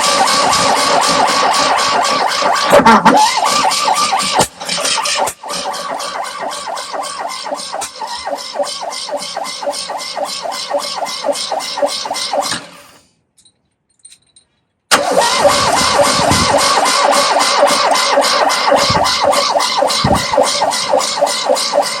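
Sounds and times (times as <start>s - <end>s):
engine cranking by starter motor: 0.0s - 13.1s, 14.9s - 22.0s.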